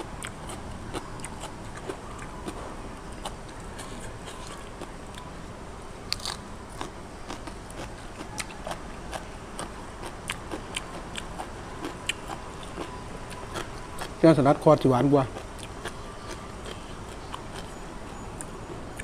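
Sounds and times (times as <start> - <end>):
person chewing crisp food: 0.0 - 5.3, 6.0 - 19.0.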